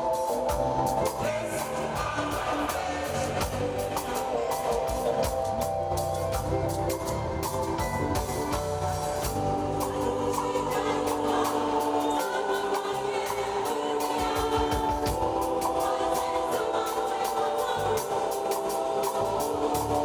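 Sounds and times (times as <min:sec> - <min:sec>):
backing instruments: 0:00.0 - 0:20.0
gospel choir singing: 0:00.0 - 0:20.0.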